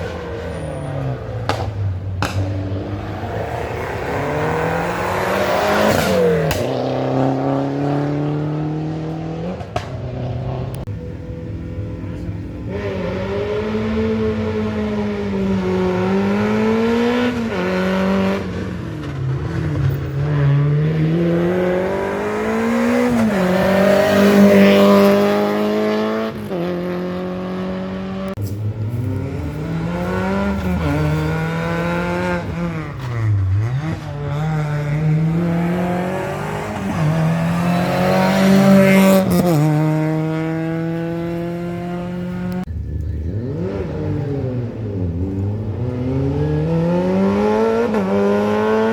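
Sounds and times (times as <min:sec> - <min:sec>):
rally car engine revving: 0:00.0 - 0:48.9.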